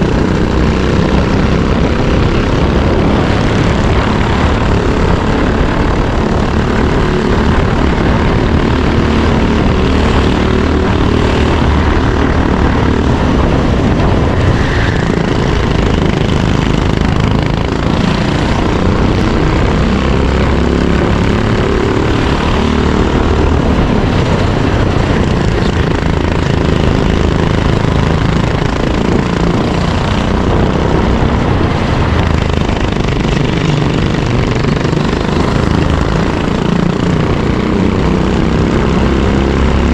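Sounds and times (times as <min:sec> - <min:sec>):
racing kart engine running hard: 0:00.0 - 0:39.9.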